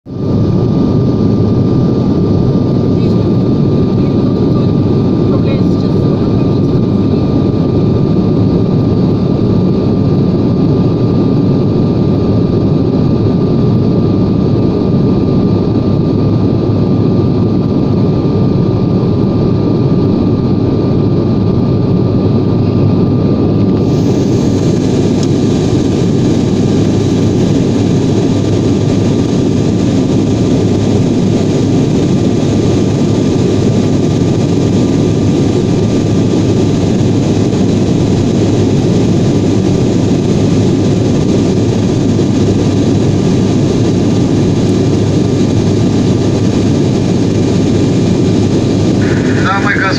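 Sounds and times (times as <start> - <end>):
airliner cabin noise: 0.2 - 49.9
faint steady whine: 0.2 - 49.9.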